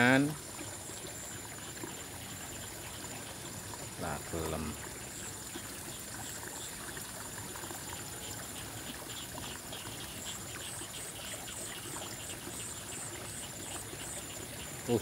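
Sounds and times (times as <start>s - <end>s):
water trickling in ditch: 0.0s - 15.0s.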